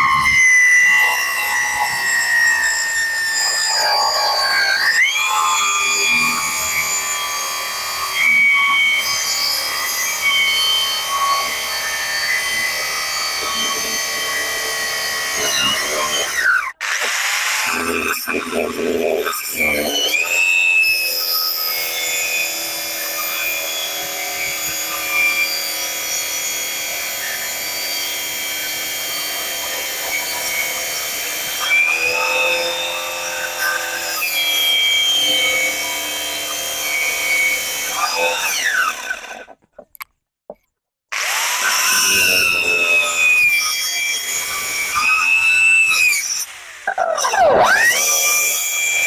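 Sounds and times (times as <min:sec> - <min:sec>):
electric drill cutting plywood: 0:00.0 - 0:39.6, 0:41.1 - 0:49.0.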